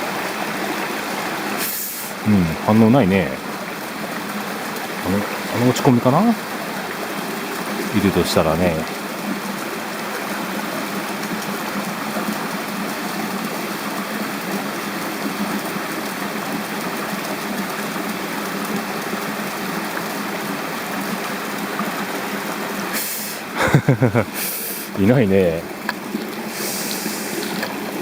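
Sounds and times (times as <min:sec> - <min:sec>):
stream rushing over a dam: 0:00.0 - 0:28.0.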